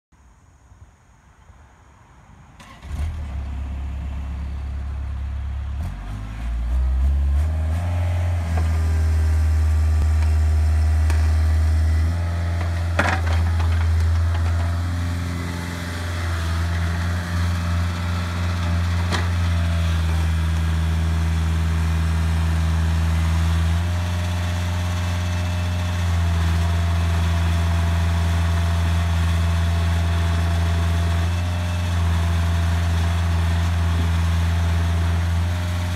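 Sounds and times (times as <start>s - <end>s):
diesel engine starting and running: 2.5s - 35.9s.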